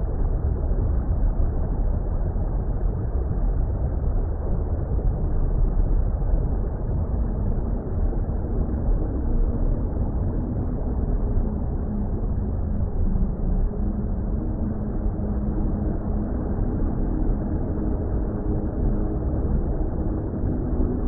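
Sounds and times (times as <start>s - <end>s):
deep underwater rumble: 0.0s - 21.0s.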